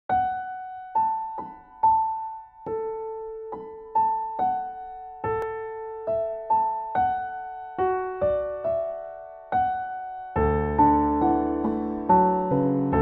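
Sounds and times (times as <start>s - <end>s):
slow piano melody: 0.1s - 13.0s.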